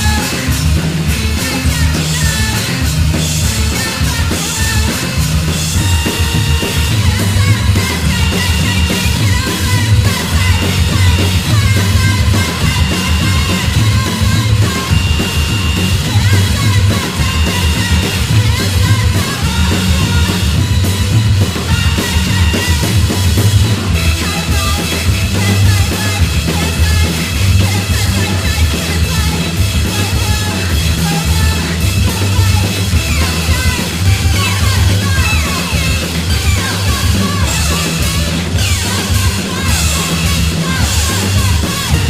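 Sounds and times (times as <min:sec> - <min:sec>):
noise rock band playing: 0:00.0 - 0:42.0
pounding drum kit: 0:00.0 - 0:42.0
pulsing bass: 0:00.0 - 0:42.0.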